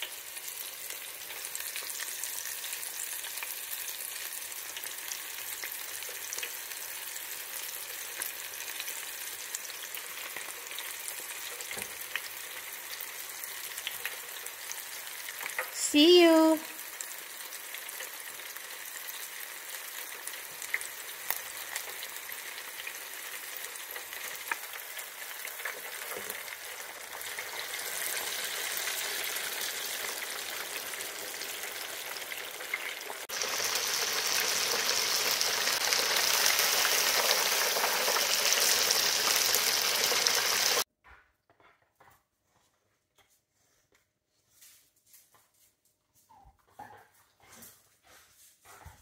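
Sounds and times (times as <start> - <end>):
oil sizzling in deep fryer: 0.0 - 40.9.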